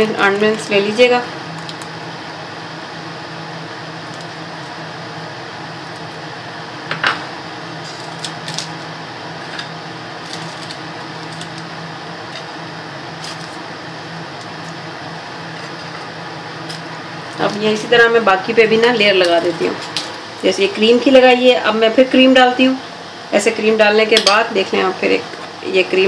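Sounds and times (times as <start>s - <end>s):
room tone hum and hiss: 0.0s - 26.0s.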